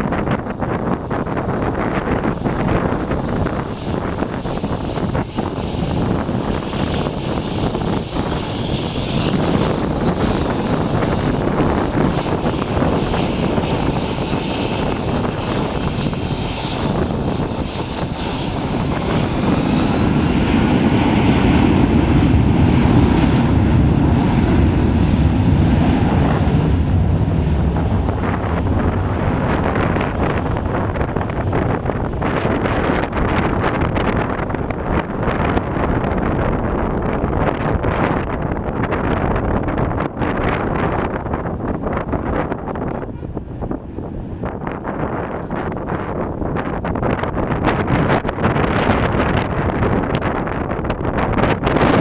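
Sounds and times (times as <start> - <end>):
jet airliner passing: 0.0 - 52.0
wind noise on microphone: 0.0 - 52.0.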